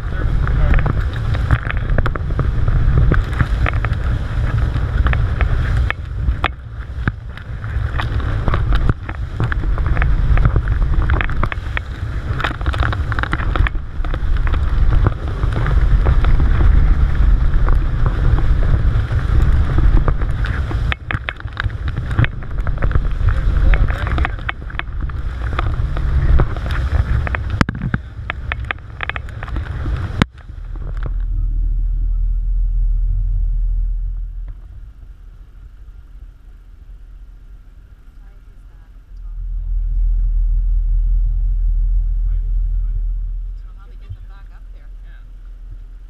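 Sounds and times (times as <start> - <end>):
water splashing off hull: 0.0 - 46.0
wind buffeting microphone: 0.0 - 46.0.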